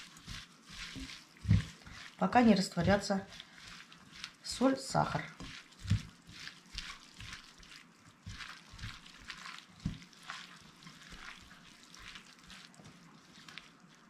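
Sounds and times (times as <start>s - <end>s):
wet salad squelching: 0.0s - 14.0s.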